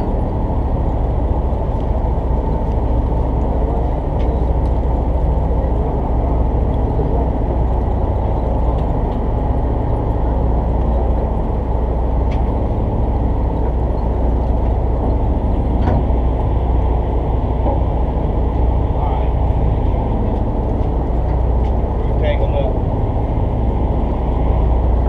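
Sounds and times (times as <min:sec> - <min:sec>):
boat engine rumbling: 0:00.0 - 0:25.0.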